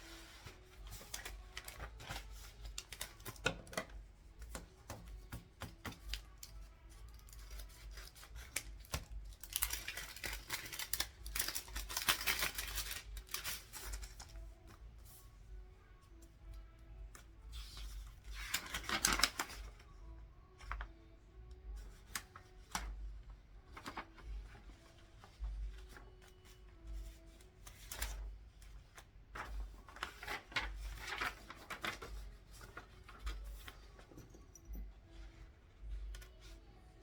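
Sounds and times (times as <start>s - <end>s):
paper rustling: 0.0s - 15.3s, 17.2s - 19.8s, 21.8s - 37.0s.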